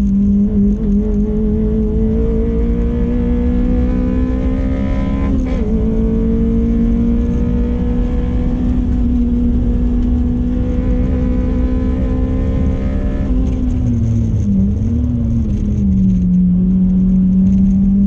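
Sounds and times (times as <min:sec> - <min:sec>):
car engine at high revs: 0:00.0 - 0:18.0
road and wind noise: 0:00.0 - 0:18.0.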